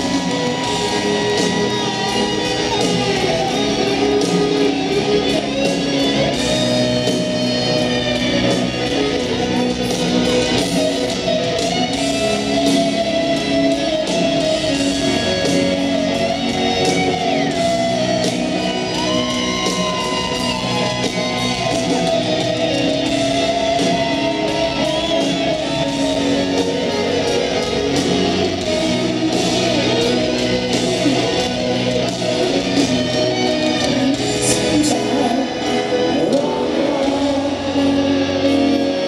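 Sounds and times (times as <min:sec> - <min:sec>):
electric guitar solo: 0:00.0 - 0:39.0
live rock band: 0:00.0 - 0:39.0.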